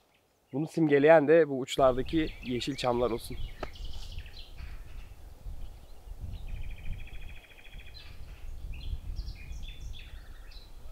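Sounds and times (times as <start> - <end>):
songbird trilling: 1.8 - 10.9.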